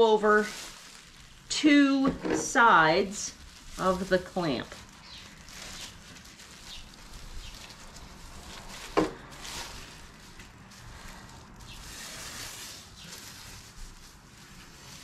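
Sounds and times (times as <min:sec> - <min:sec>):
plastic sheeting rustling: 0:00.0 - 0:15.0.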